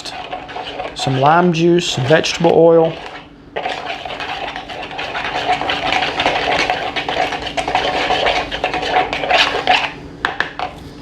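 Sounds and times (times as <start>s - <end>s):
whisking liquid in a bowl: 0.0s - 10.8s.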